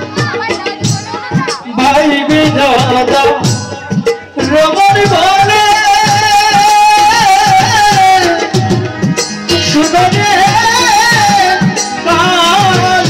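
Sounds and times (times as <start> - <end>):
keyboard accompaniment: 0.0 - 13.0
tabla beats: 0.0 - 13.0.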